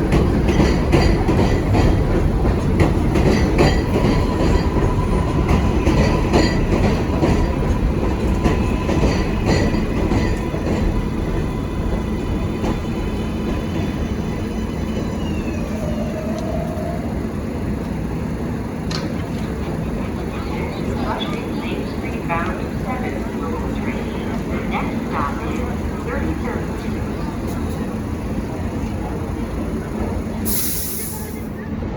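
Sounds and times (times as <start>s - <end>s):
subway train rumbling on track: 0.0s - 31.9s.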